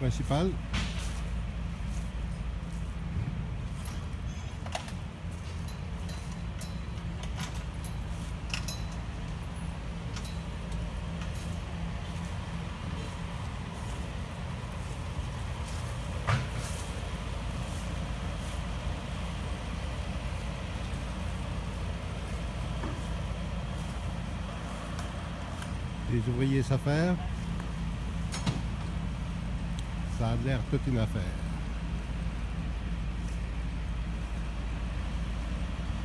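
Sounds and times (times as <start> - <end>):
heavy engine rumbling: 0.0 - 36.0.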